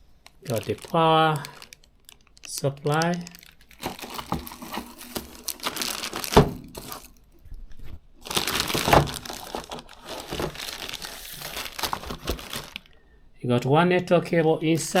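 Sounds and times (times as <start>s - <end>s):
plastic packaging crinkling: 0.0s - 13.0s, 14.8s - 15.0s.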